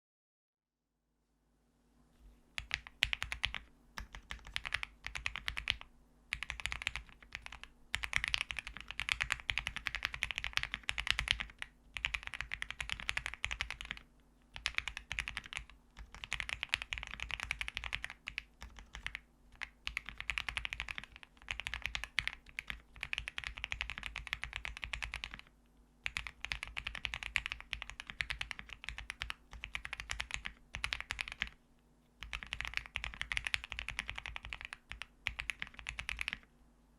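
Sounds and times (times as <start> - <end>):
mechanical keyboard typing: 2.6 - 31.6, 32.2 - 36.5.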